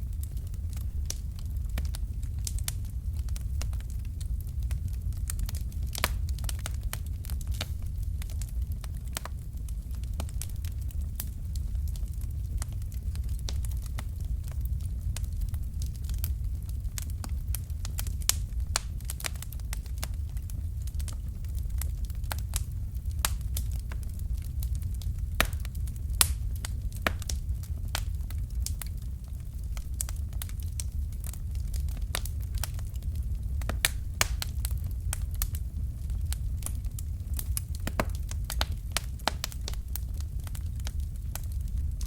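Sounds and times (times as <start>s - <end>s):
fire crackling and popping: 0.0s - 42.0s
low rumble of flames: 0.0s - 42.0s.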